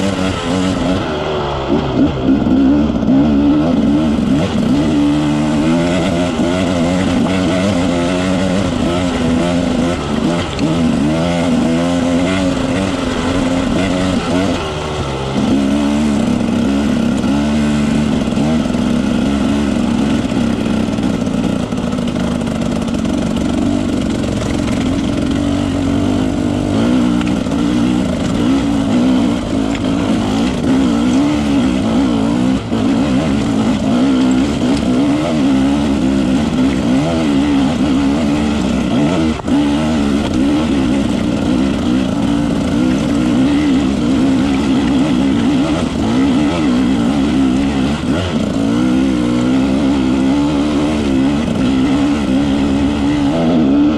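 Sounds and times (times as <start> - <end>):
motorcycle engine climbing: 0.0 - 53.9.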